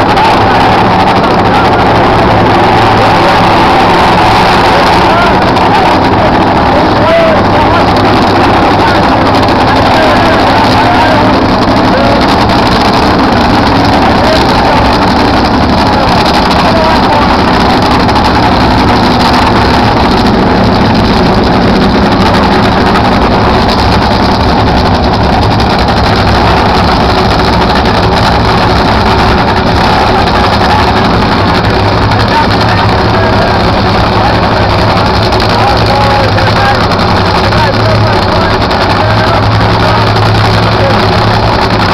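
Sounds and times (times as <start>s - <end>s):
engines idling with loud rumble: 0.0s - 41.9s.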